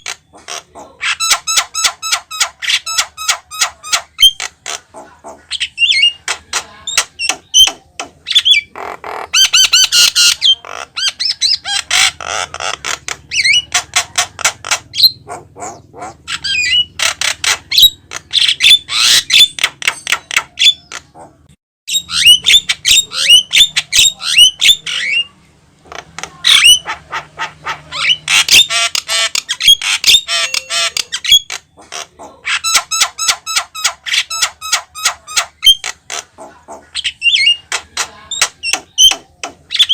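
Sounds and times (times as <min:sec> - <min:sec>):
bird chattering and whistling: 0:00.0 - 0:39.9
bird squawking: 0:00.0 - 0:39.9.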